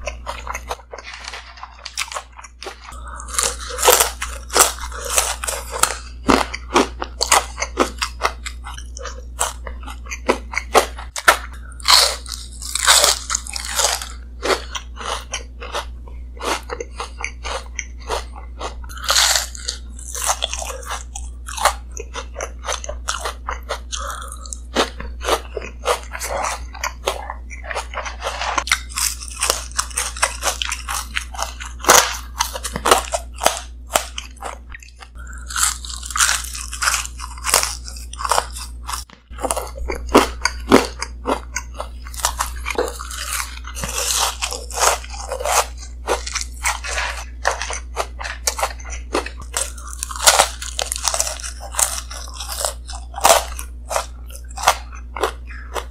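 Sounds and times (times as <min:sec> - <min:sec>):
crunching and chewing fried food: 0:00.0 - 0:55.9
steady low hum: 0:00.0 - 0:55.9.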